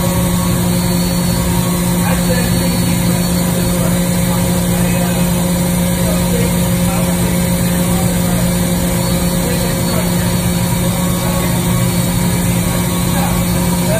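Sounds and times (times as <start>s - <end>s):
machine humming: 0.0s - 13.9s.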